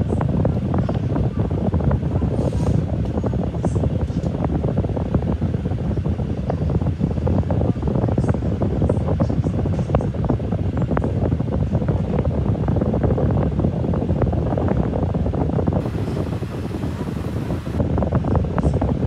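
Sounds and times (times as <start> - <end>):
air buffeting microphone: 0.0 - 19.0.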